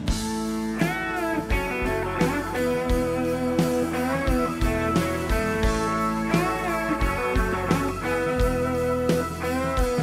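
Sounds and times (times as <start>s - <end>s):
bass guitar: 0.0s - 10.0s
gliding guitar notes: 0.0s - 10.0s
strummed guitars: 0.0s - 10.0s.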